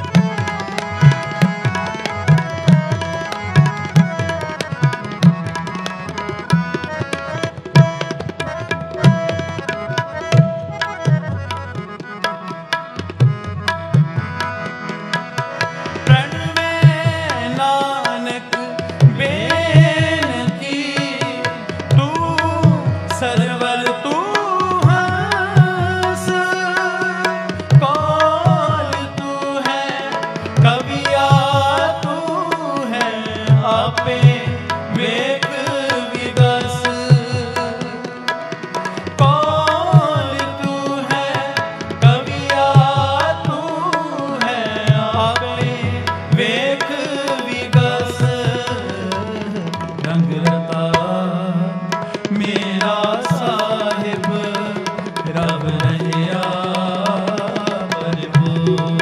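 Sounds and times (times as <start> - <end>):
tabla rhythm: 0.0 - 59.0.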